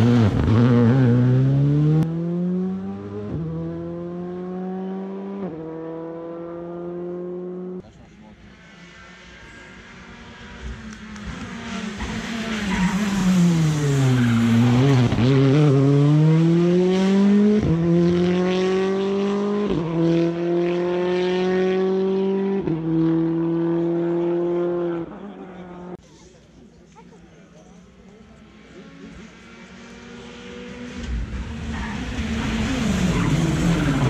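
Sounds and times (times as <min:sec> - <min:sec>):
rally car engine at full throttle: 0:00.0 - 0:26.0, 0:27.8 - 0:34.0.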